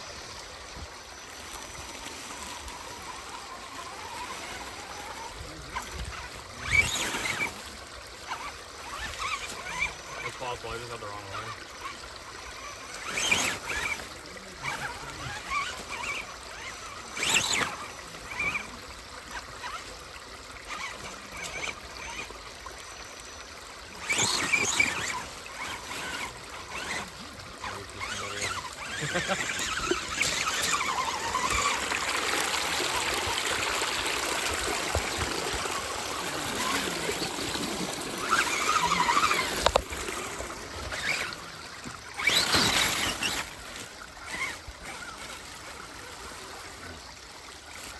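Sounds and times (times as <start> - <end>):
creek water running: 0.0 - 47.9
water splashing: 1.2 - 47.9.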